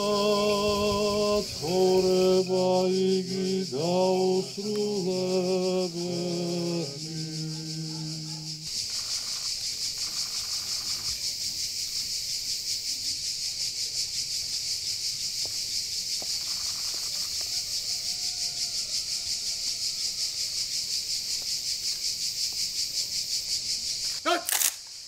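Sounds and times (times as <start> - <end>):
insect chorus chirring: 0.0 - 25.0.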